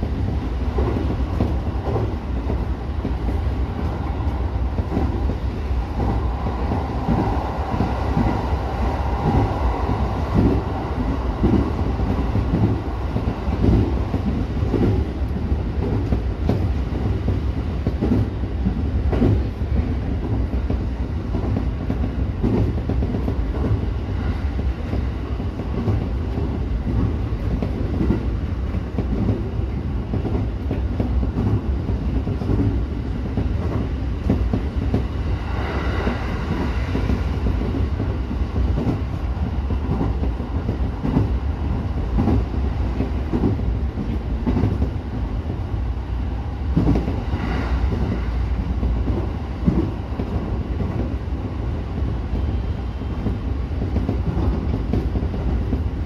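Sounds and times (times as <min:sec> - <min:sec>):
train running at speed: 0:00.0 - 0:56.0.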